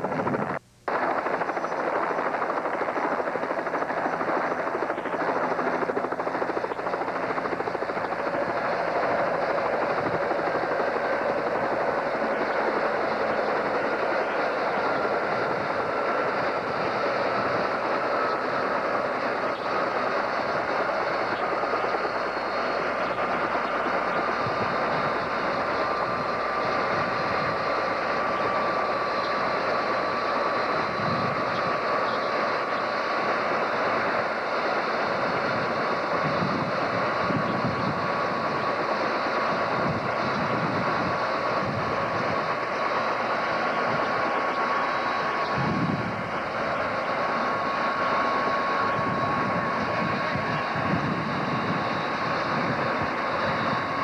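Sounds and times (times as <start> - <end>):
helicopter rotor rushing: 0.0 - 54.0
helicopter turbine whine: 0.0 - 54.0.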